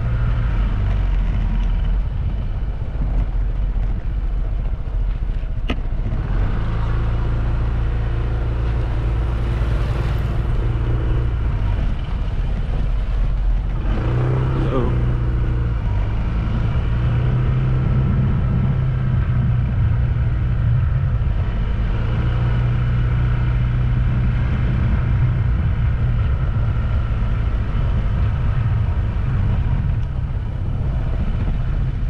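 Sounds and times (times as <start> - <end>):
low hum: 0.0 - 32.0
road noise: 0.0 - 32.0
vehicle engine drone: 0.0 - 32.0.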